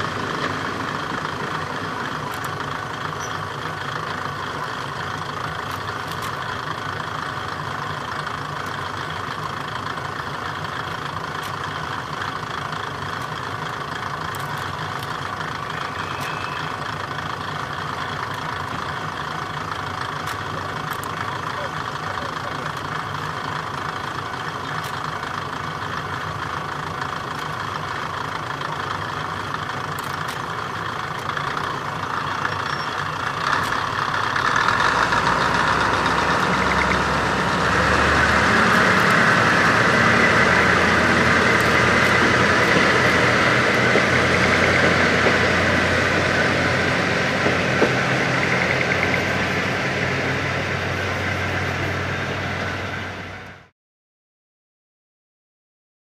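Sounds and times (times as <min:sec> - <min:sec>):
diesel railcar engine: 0:00.0 - 0:53.7.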